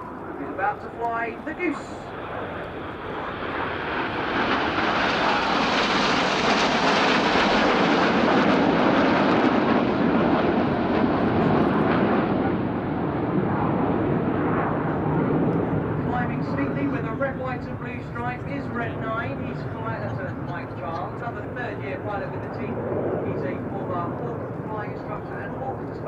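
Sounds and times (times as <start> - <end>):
jet flying low pass: 0.0 - 26.0.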